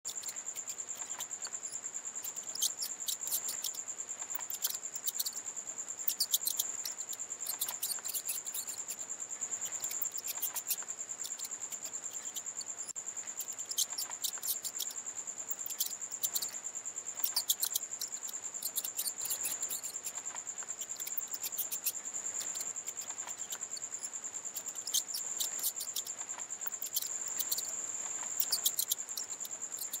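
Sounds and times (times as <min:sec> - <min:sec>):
short squeaky chirps: 0:00.1 - 0:05.4, 0:06.0 - 0:09.0, 0:09.6 - 0:30.0
high-pitched insect trill: 0:00.1 - 0:30.0.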